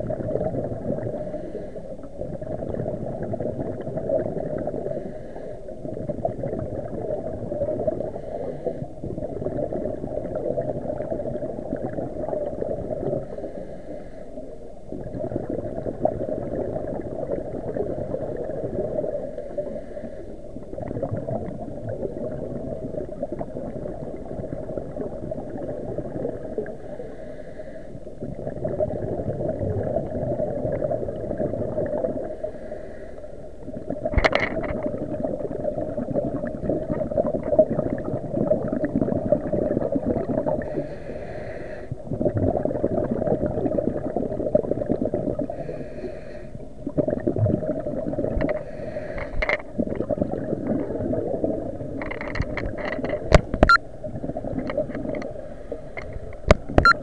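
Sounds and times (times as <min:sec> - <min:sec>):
underwater water gurgling: 0:00.0 - 0:57.0.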